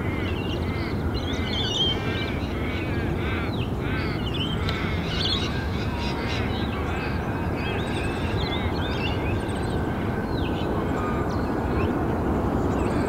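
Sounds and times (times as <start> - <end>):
birds calling: 0.0 - 13.0
distant airport rumble: 0.0 - 13.0
wind on microphone: 0.0 - 13.0.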